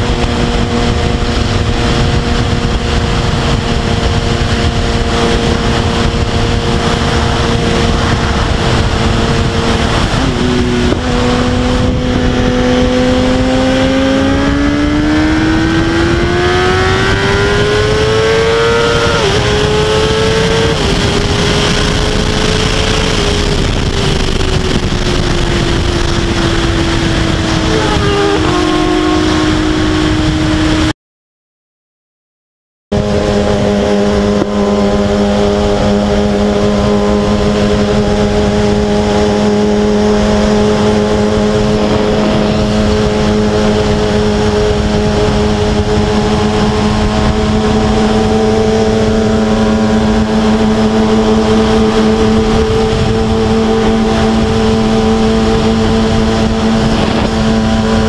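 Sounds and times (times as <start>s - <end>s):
motorcycle engine revving: 0.0s - 30.9s, 32.9s - 58.0s
wind rush: 0.0s - 30.9s, 32.9s - 58.0s.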